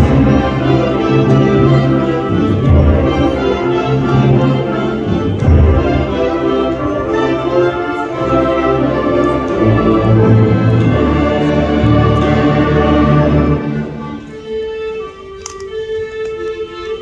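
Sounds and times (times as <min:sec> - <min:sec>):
wind band and string orchestra playing: 0:00.0 - 0:17.0.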